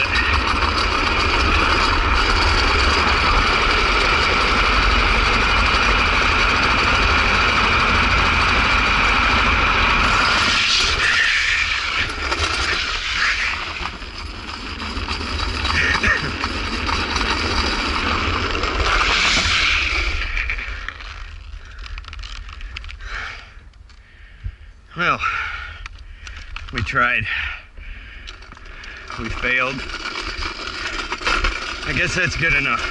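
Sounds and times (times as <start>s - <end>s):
hard wheels rumbling on asphalt: 0.0s - 32.9s.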